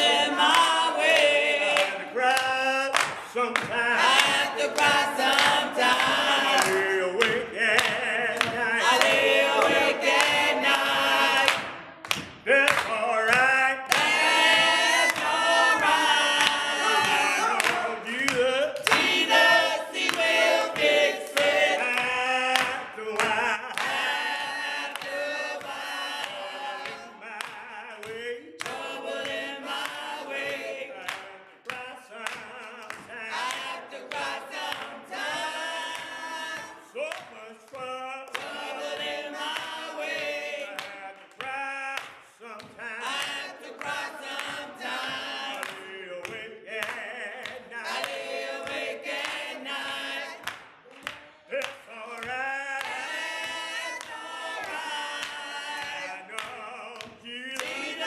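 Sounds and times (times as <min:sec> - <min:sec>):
group singing a cappella: 0:00.0 - 0:58.0.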